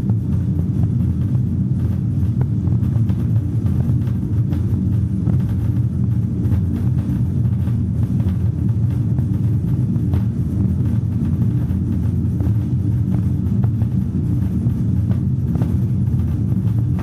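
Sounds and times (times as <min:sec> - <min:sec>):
low ambient drone: 0:00.0 - 0:17.0.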